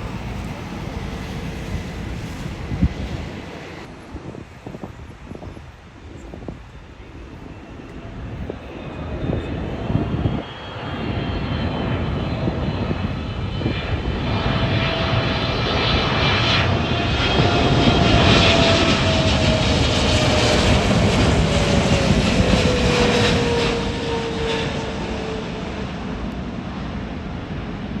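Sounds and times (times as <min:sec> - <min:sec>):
jet airliner engines: 0:00.0 - 0:28.0.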